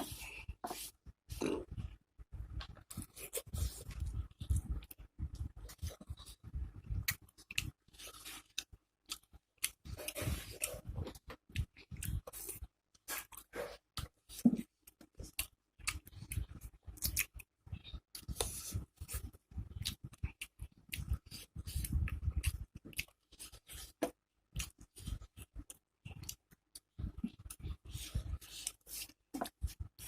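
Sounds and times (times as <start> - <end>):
wet chewing: 2.6 - 30.0.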